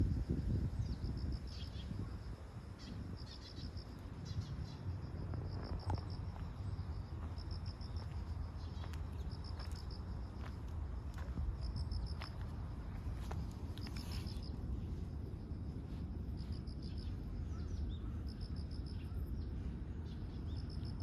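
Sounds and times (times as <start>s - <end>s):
crickets chirping: 0.0s - 21.0s
steady low rumble: 0.0s - 21.0s.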